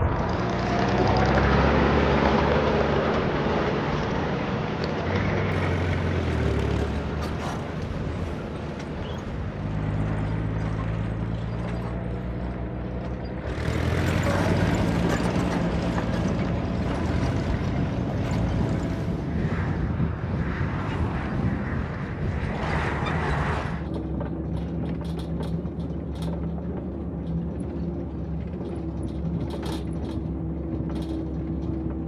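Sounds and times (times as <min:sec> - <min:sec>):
vehicle engines running: 0:00.0 - 0:32.0.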